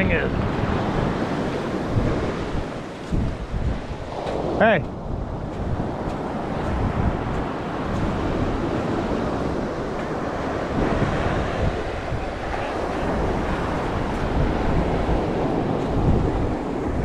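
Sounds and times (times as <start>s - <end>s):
surf: 0.0s - 17.0s
wind buffeting microphone: 0.0s - 17.0s.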